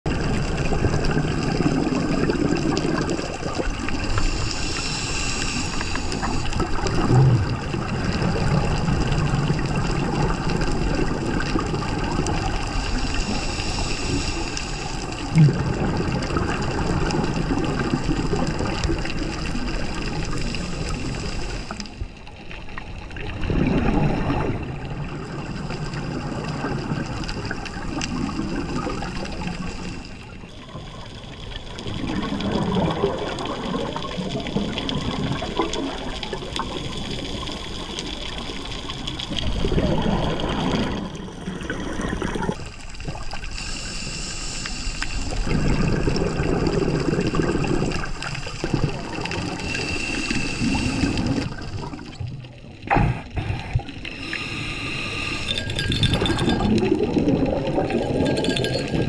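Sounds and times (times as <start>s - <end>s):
rushing and gurgling water: 0.1s - 59.0s.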